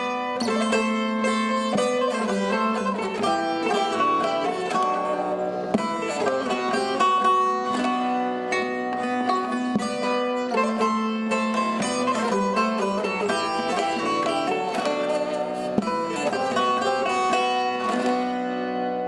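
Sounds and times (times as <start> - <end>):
plucked lute folk melody: 0.0 - 19.0.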